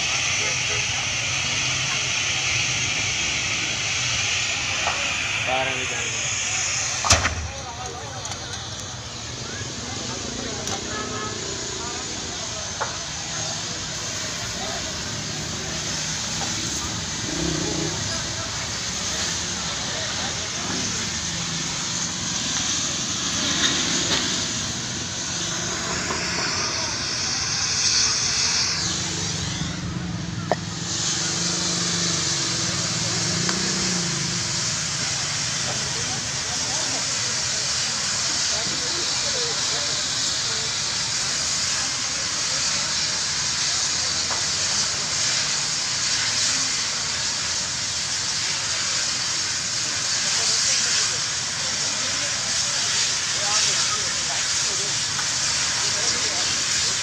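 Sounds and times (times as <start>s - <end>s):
fire hissing: 0.0s - 57.0s.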